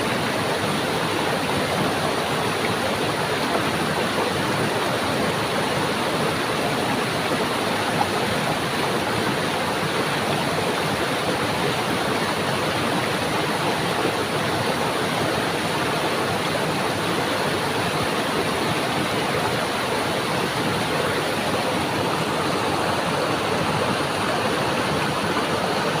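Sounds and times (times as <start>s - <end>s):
stream water flowing: 0.0s - 26.0s.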